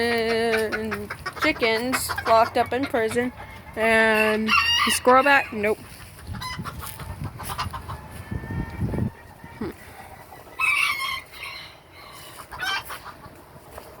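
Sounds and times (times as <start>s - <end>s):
chickens calling: 0.0s - 14.0s.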